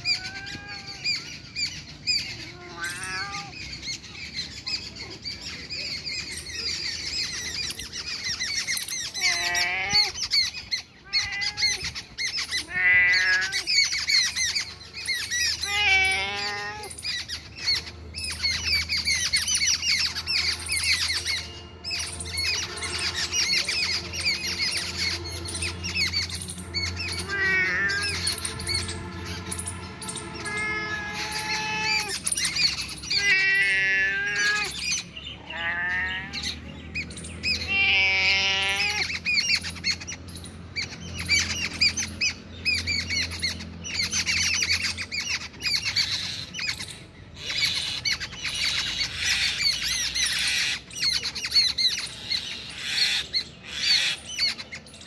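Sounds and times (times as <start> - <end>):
birds chirping: 0.0 - 55.0
long pitch-bending bird calls: 0.0 - 55.0.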